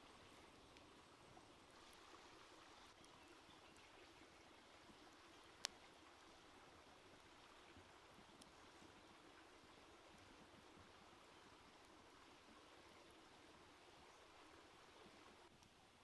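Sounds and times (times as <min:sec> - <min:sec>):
faint stream rushing: 0:00.0 - 0:16.0
wood fire crackle: 0:00.0 - 0:16.0.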